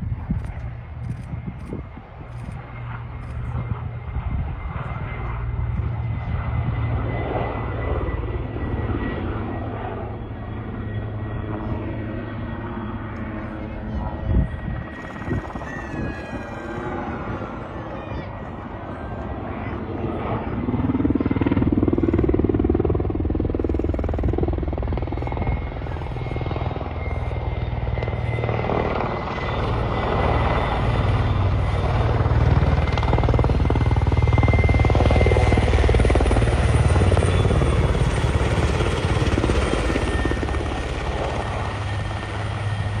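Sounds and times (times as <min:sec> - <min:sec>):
helicopter rotor and engine: 0:00.0 - 0:43.0.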